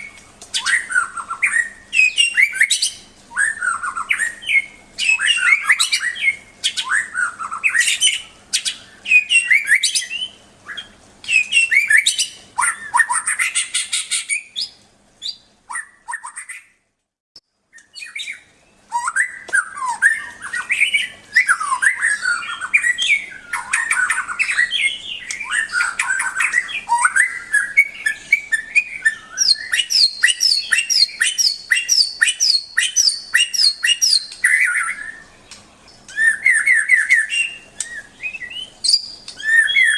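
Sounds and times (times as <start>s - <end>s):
songbird singing: 0.0s - 16.8s, 17.4s - 39.9s.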